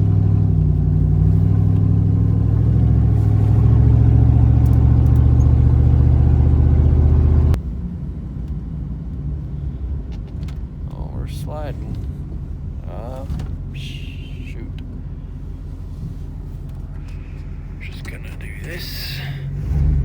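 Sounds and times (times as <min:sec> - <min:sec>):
truck engine running: 0:00.0 - 0:07.6, 0:11.2 - 0:20.0
low engine rumble: 0:00.0 - 0:20.0.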